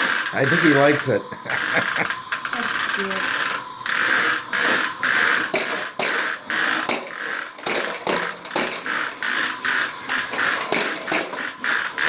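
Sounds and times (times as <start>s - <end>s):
toy vacuum cleaner pulsing whoosh: 0.0s - 12.0s.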